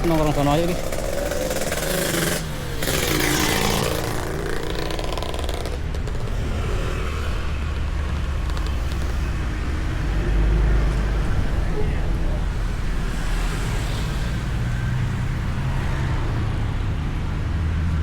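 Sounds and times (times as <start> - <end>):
motor vehicle passing: 0.0 - 17.2
low traffic rumble: 0.0 - 18.0.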